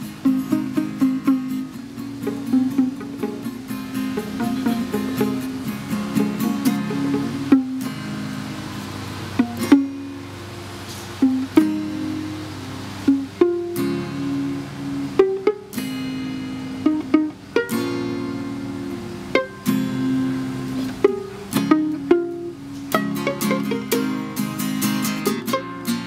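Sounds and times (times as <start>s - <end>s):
plucked-string chords ringing: 0.0s - 26.0s.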